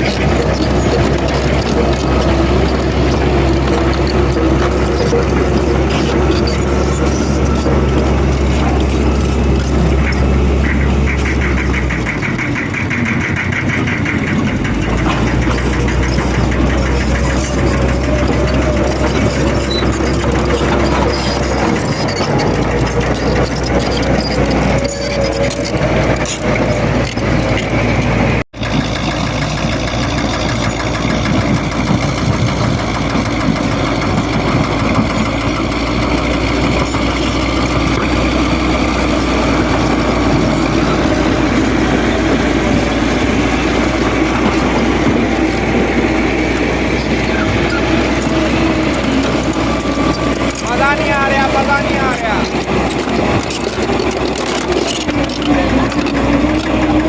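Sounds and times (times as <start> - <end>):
heavy machinery engine rumbling: 0.0 - 57.0.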